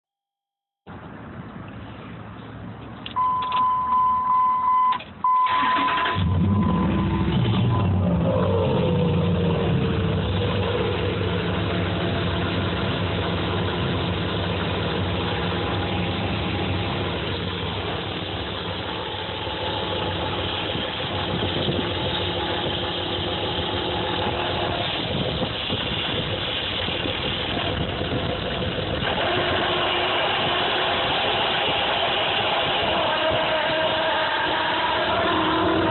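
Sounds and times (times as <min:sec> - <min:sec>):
pickup engine idling: 0:05.5 - 0:35.9.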